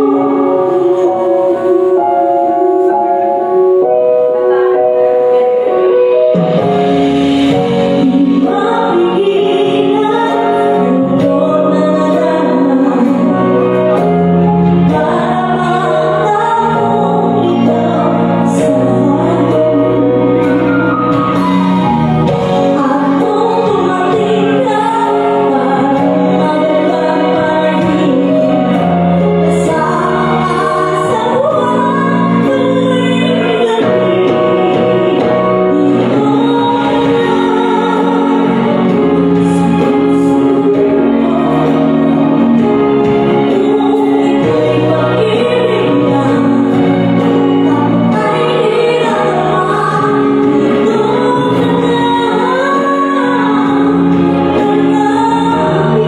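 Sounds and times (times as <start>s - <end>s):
backing music: 0.0s - 56.0s
woman singing: 0.0s - 56.0s.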